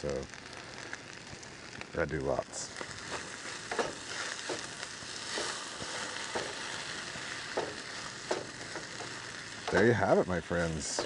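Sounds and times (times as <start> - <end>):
rice sizzling in a pot: 0.0 - 11.0.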